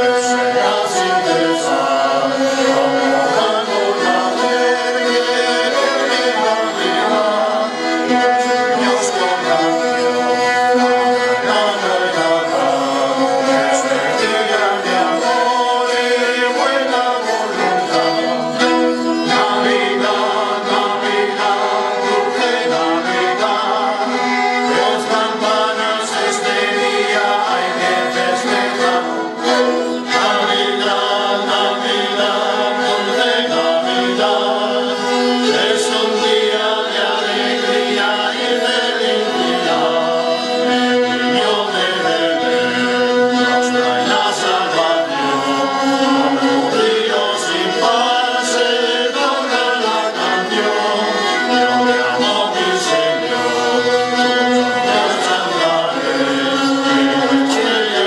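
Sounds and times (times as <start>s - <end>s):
bowed folk fiddles playing: 0.0s - 58.0s
men singing folk song: 0.0s - 58.0s.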